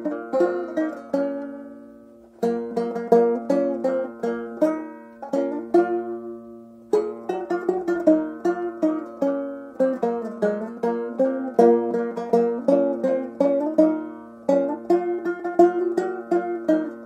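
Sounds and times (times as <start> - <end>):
fingerpicked banjo melody: 0.0 - 17.0.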